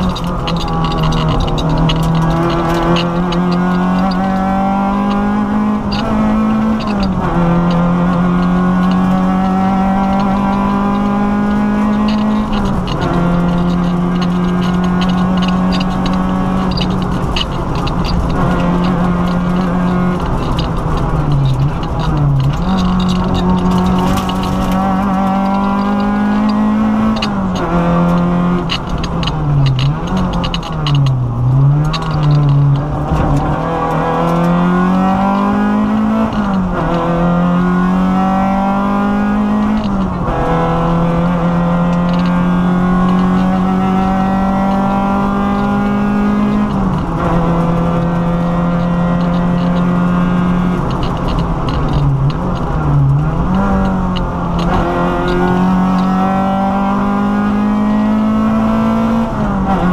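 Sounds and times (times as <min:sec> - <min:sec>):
car engine accelerating and shifting: 0:00.0 - 0:59.9.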